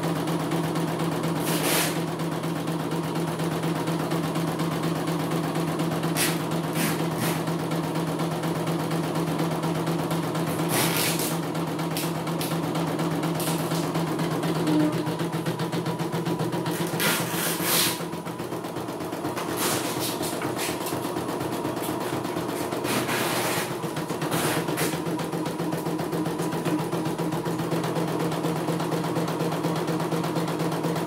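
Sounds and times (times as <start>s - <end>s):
embroidery machine stitching: 0.0s - 31.0s.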